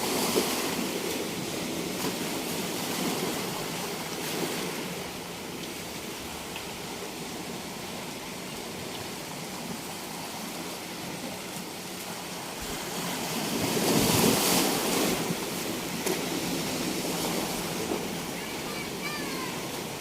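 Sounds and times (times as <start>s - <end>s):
ocean waves washing on beach: 0.0s - 20.0s.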